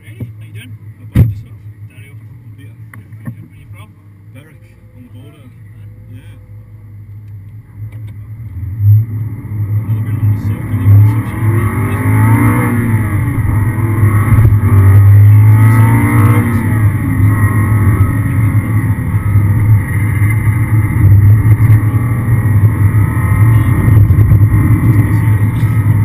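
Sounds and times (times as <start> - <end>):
car engine revving: 0.0 - 26.0
constant low drone: 0.0 - 26.0.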